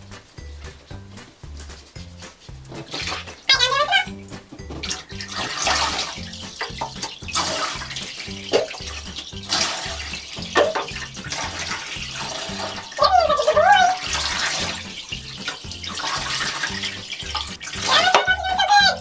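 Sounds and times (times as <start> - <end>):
background music with low beat: 0.0 - 19.0
water splashing on dog: 2.8 - 4.1, 4.7 - 19.0.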